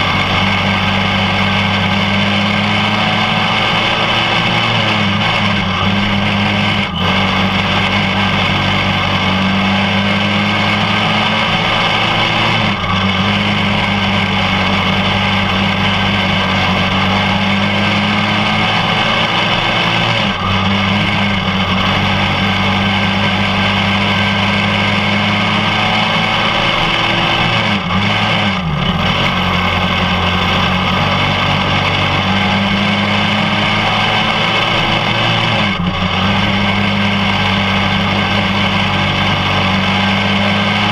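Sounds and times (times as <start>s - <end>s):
kart engine at high revs: 0.0s - 40.9s.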